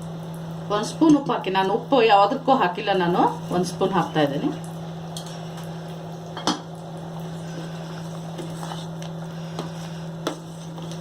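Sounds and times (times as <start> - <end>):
pot boiling: 0.0 - 11.0.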